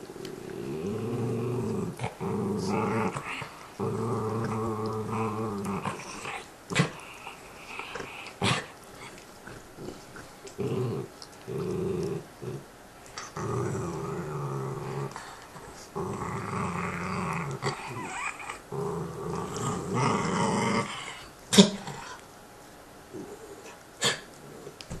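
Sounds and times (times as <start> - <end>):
dog gnawing bone: 0.0 - 20.2
dog growling: 0.0 - 22.2, 23.1 - 25.0.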